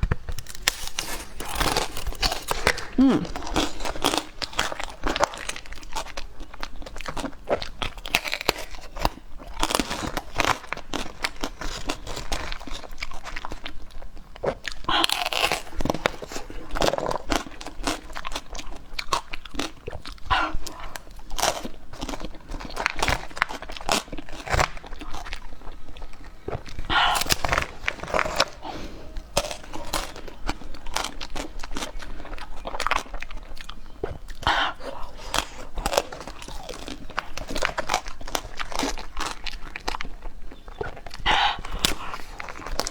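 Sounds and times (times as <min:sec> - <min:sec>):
crunchy bites and chewing: 0:00.0 - 0:42.9.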